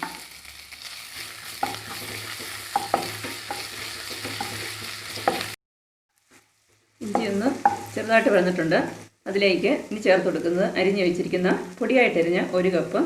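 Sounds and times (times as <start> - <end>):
ginger sizzling in butter: 0.0 - 13.0.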